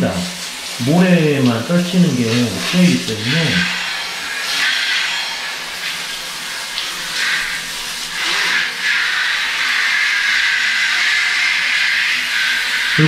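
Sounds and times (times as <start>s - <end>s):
shower head spraying water: 0.0s - 13.0s.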